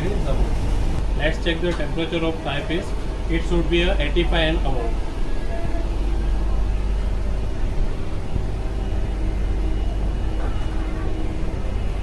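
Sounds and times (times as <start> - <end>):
faint whining tones: 0.0 - 12.0.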